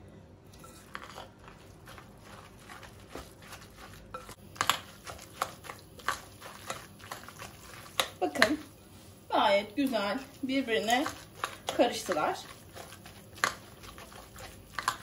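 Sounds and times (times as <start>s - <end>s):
fork stirring wet batter: 0.5s - 15.0s.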